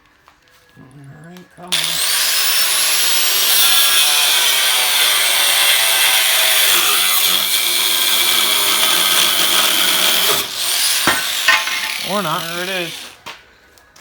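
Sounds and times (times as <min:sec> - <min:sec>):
angle grinder cutting steel: 0:01.7 - 0:13.2.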